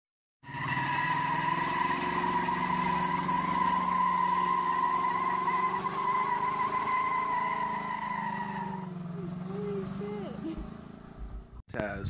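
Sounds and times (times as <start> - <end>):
car engine at high revs: 0.4 - 11.6
tyres squealing: 0.5 - 11.2.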